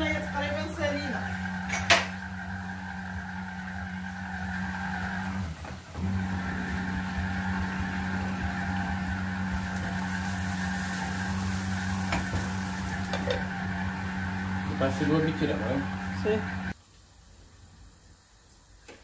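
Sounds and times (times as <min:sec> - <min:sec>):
kitchen appliance motor humming: 0:00.0 - 0:16.8.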